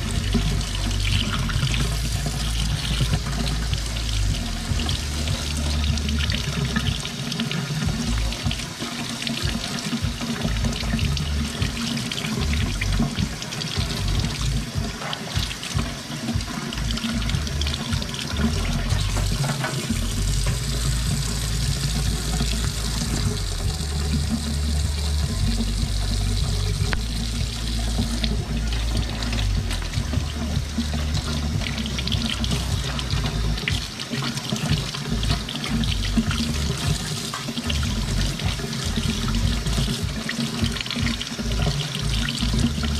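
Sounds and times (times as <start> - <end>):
faucet running into steel sink: 0.0 - 42.9.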